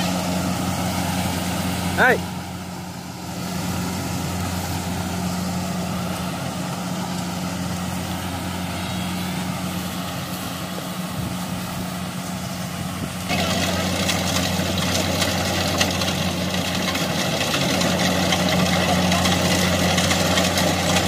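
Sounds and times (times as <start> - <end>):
combine harvester diesel engine drone: 0.0 - 21.0
cutting and threshing machinery: 0.0 - 21.0.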